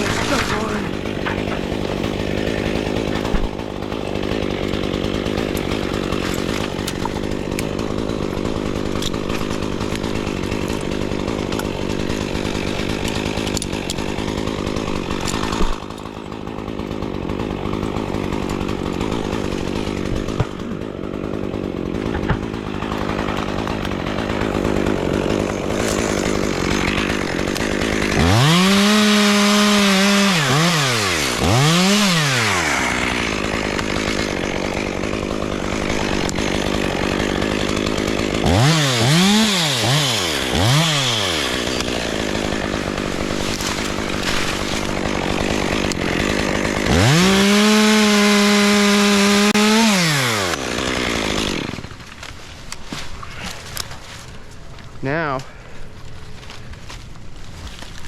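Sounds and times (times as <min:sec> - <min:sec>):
chainsaw revving: 0:00.0 - 0:52.3.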